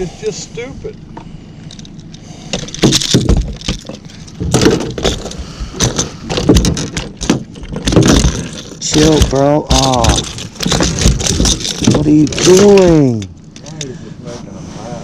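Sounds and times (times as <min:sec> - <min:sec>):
hooks jangling: 0:01.7 - 0:13.9.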